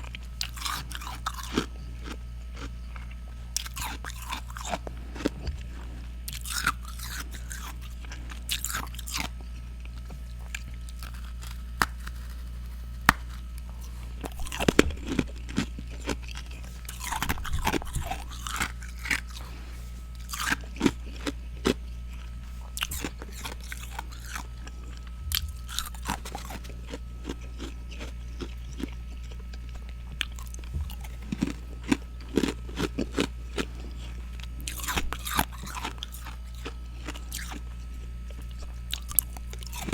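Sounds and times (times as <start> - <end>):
crunching and chewing frost: 0.0 - 39.9
steady low hum: 0.0 - 39.9.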